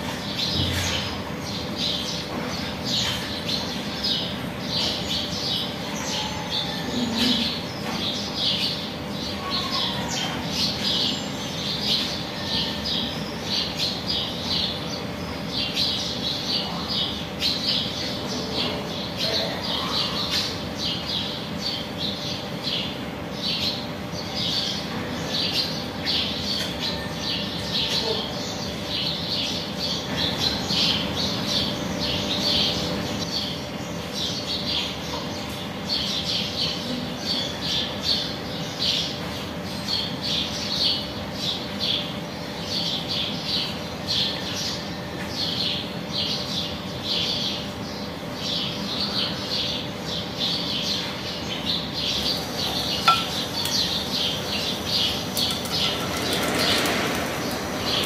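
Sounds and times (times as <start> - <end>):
birds chirping: 0.1 - 58.0.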